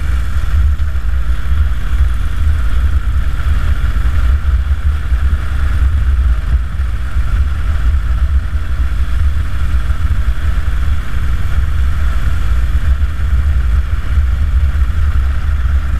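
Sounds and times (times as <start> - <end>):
wind rushing on microphone: 0.0 - 15.9.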